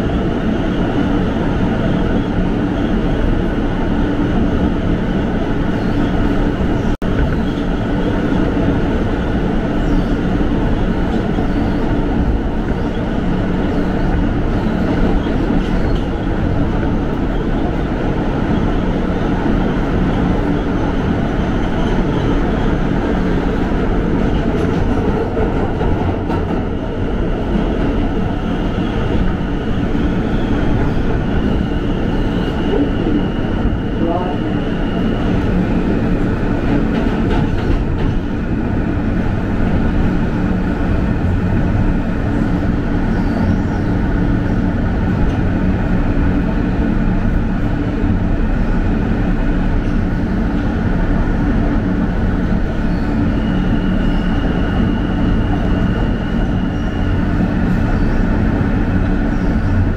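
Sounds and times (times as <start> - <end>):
subway wheels rumbling on rail: 0.0 - 59.9.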